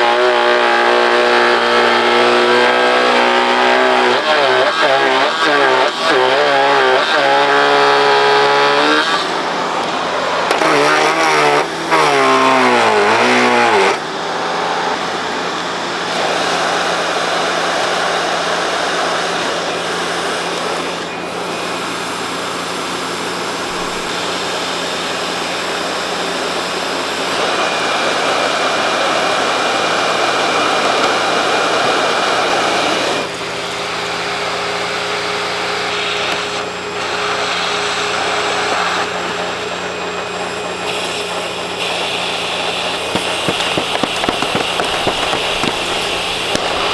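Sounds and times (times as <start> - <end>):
vacuum cleaner whirring: 0.0 - 46.9.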